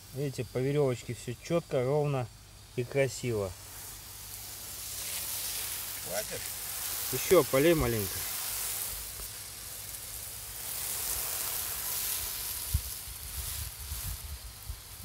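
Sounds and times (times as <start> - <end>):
hose spraying water on sand: 0.0 - 15.0.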